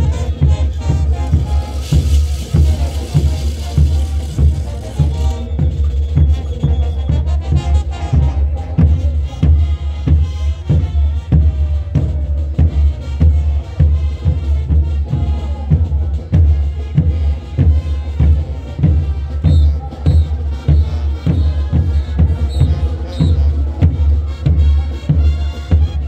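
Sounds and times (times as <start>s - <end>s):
brass band horns: 0.0s - 26.0s
steady drum beat: 0.0s - 26.0s.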